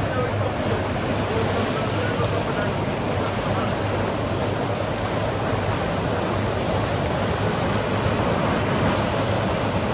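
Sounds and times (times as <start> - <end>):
surf washing over rocks: 0.0 - 9.9.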